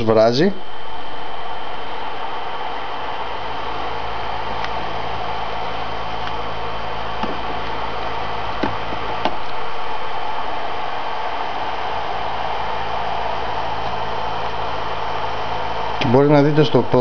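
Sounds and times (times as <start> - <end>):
electric kettle hissing: 0.0 - 17.0.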